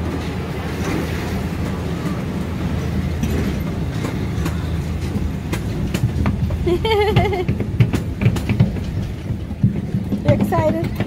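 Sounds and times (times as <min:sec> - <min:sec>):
ride train rumbling on track: 0:00.0 - 0:11.0
sharp clicks from wheels: 0:00.2 - 0:11.0.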